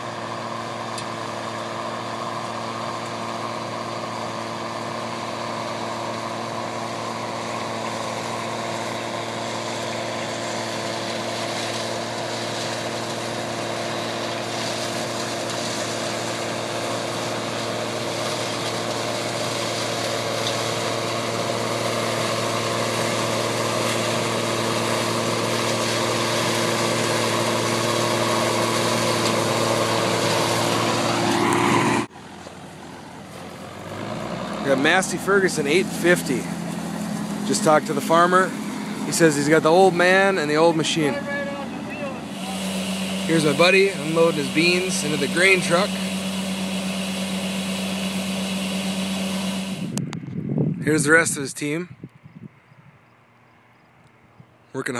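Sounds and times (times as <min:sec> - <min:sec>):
combine harvester running: 0:00.0 - 0:52.2, 0:53.3 - 0:54.9.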